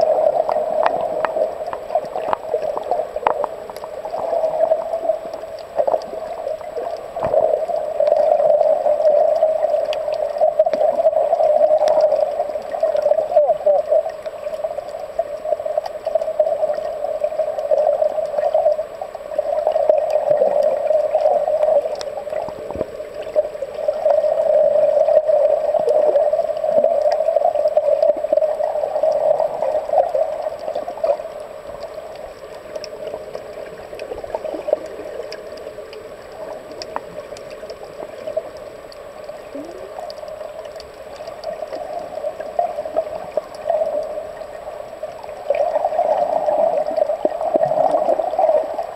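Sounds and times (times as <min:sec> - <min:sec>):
faint clicks: 0:00.0 - 0:48.9
muffled underwater water rush: 0:00.0 - 0:48.9.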